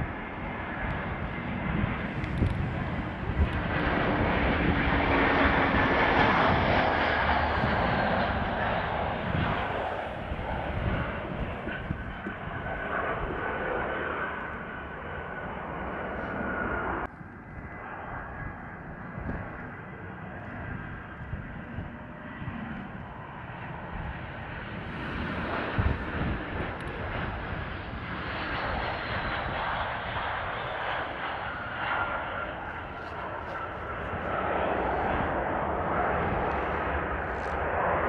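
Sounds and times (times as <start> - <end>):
jet engines rumbling and whining: 0.0 - 38.0.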